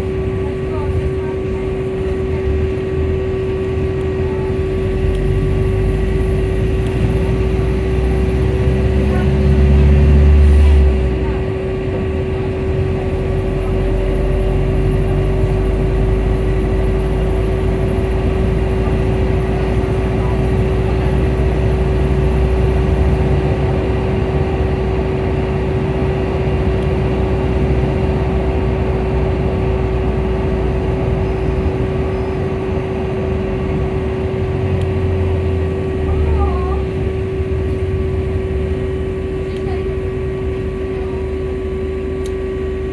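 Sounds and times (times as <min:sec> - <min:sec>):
bus engine humming: 0:00.0 - 0:42.9.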